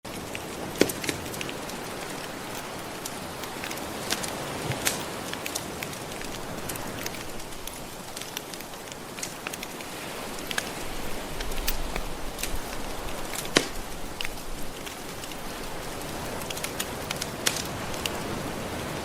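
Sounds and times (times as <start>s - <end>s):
wood fire crackling: 0.1s - 18.2s.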